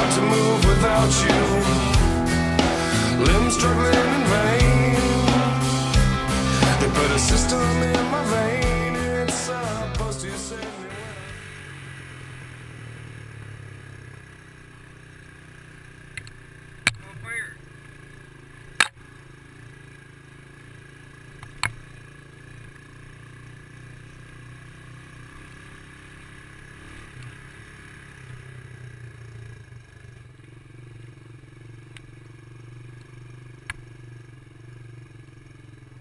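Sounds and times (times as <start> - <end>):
dirt bike engine running: 0.0 - 36.0.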